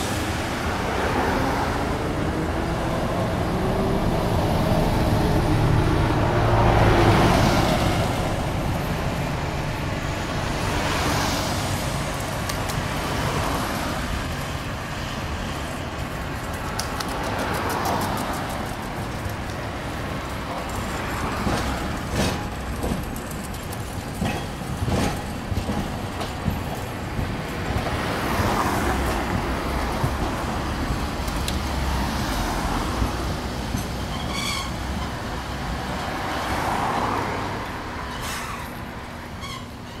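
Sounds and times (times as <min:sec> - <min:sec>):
road traffic: 0:00.0 - 0:40.0
tram rumbling past on rails: 0:00.0 - 0:40.0.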